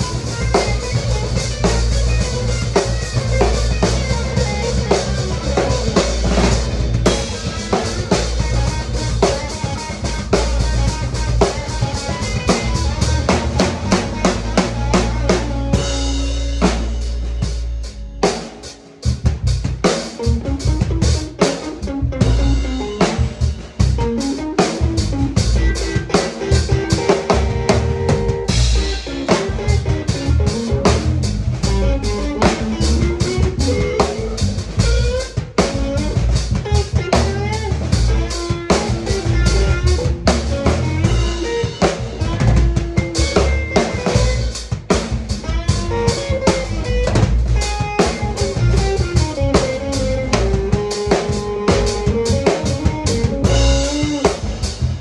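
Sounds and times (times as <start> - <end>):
drum kit playing: 0.0 - 55.0
electric guitar line: 0.0 - 55.0.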